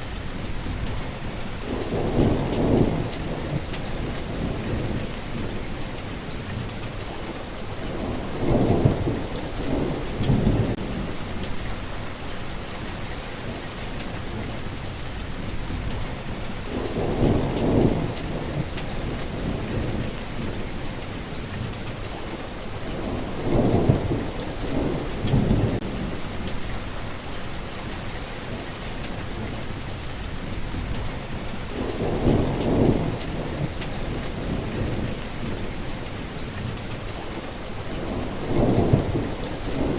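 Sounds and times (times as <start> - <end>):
steady rain falling: 0.0 - 39.9
thunder rumbling: 0.2 - 6.2, 7.7 - 21.3, 22.8 - 39.9.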